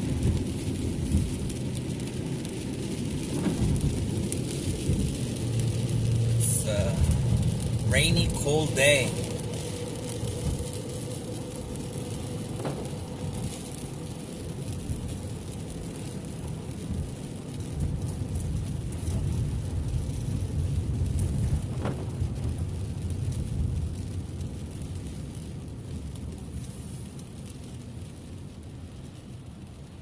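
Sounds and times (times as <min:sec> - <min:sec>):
hiss of rain on wet road: 0:00.0 - 0:30.0
road and tyre rumble: 0:00.0 - 0:30.0.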